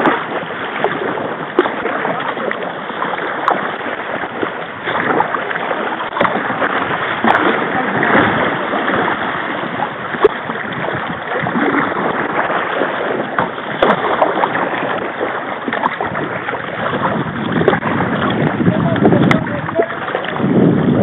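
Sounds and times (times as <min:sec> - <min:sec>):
paddle strokes in water: 0:00.0 - 0:21.0
river current rushing and splashing: 0:00.0 - 0:21.0.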